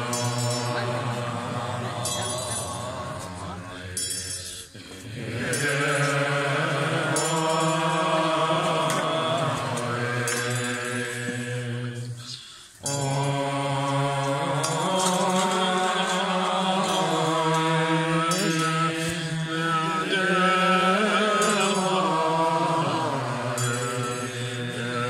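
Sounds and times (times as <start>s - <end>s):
monks chanting: 0.0s - 25.0s.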